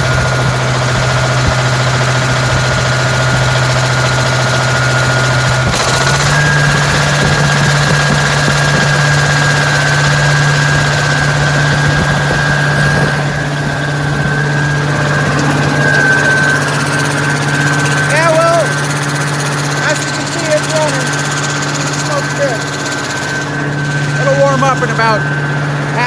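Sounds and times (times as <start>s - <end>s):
high whine: 0.0s - 26.0s
machine engine running: 0.0s - 26.0s.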